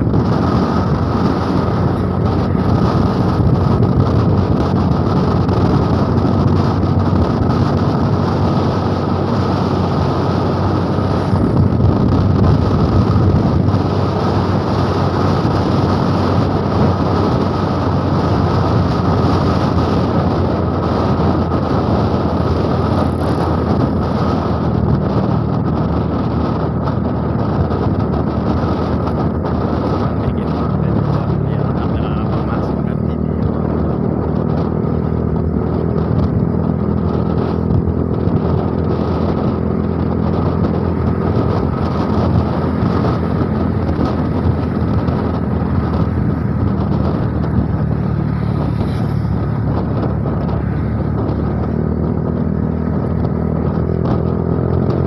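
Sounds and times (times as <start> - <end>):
trucks passing: 0.0 - 55.0
wind and road noise: 0.0 - 55.0.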